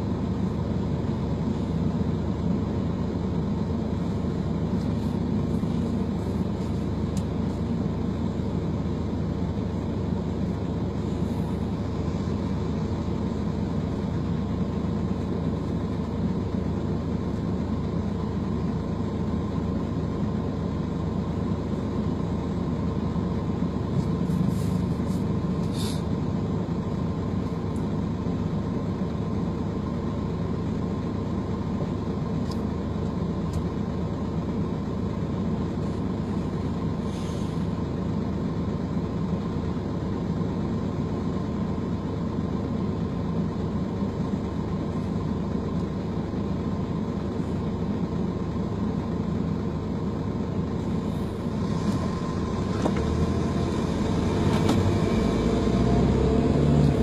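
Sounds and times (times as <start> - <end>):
engine-like rumble: 0.0 - 57.0.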